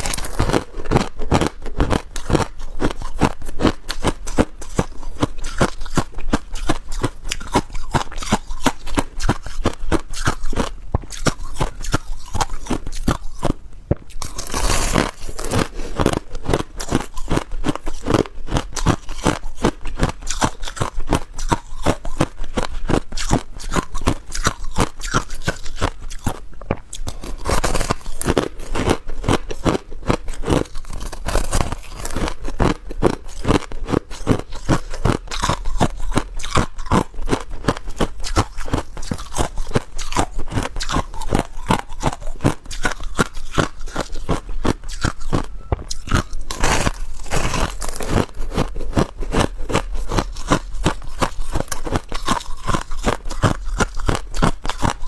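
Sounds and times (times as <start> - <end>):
crunching ice: 0.0 - 55.0.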